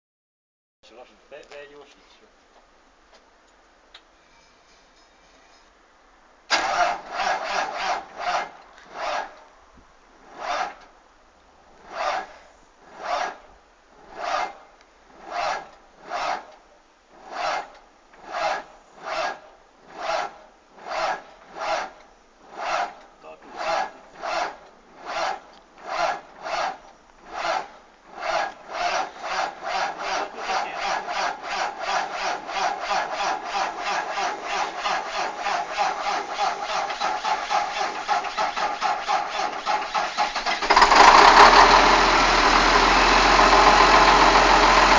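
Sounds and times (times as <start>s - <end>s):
diesel truck engine cold starting: 6.5s - 9.5s, 10.2s - 10.9s, 11.7s - 44.9s.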